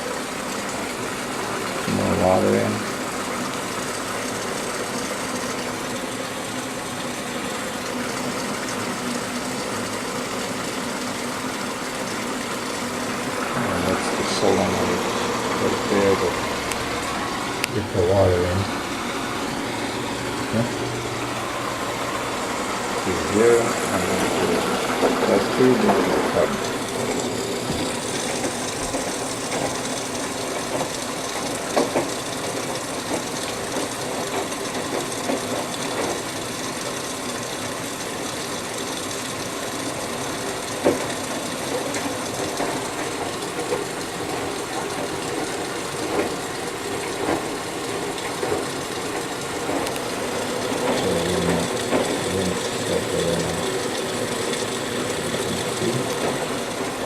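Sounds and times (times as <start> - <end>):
water filling washing machine: 0.0 - 57.0.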